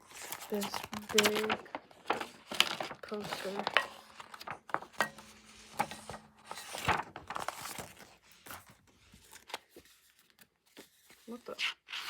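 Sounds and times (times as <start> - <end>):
paper and card rustling: 0.0 - 12.0.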